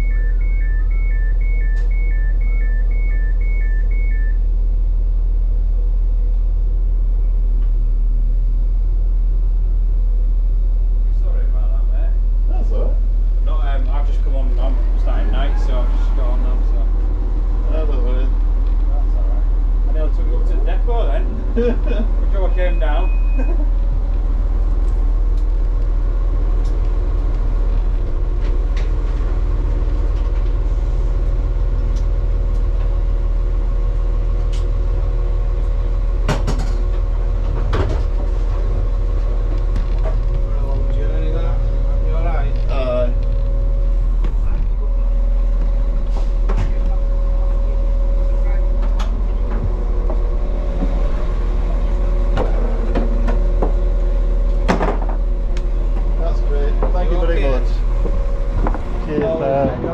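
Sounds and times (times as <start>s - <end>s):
idling train hum: 0.0s - 59.9s.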